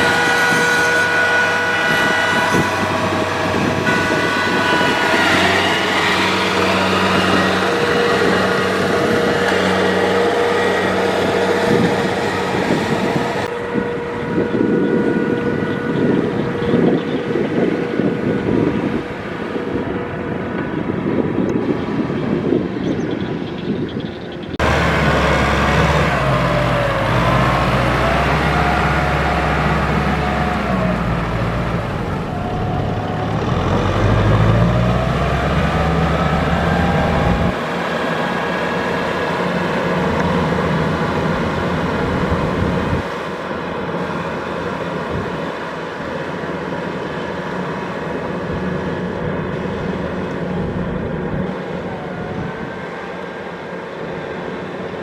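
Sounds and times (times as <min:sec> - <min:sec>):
combine harvester engine rumbling: 0:00.0 - 0:55.0
machinery whine: 0:00.0 - 0:55.0.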